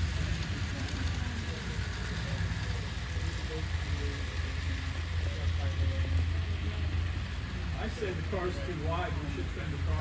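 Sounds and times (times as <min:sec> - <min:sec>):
faint voices talking: 0:00.0 - 0:10.0
model train rumbling on track: 0:00.0 - 0:10.0.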